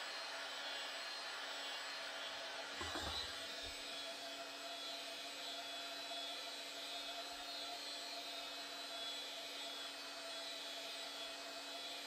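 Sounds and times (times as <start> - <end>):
heat gun fan whirring: 0.0 - 12.0.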